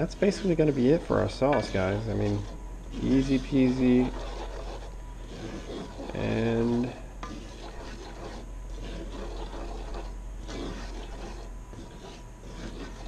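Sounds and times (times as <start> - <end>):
wooden spoon stirring thick sauce: 0.0 - 13.0.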